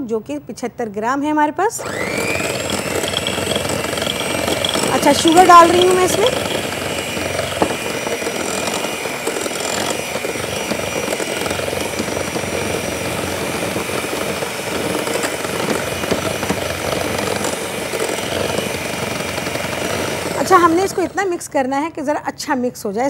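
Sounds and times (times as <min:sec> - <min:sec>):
electric mixer running: 0:01.8 - 0:22.2.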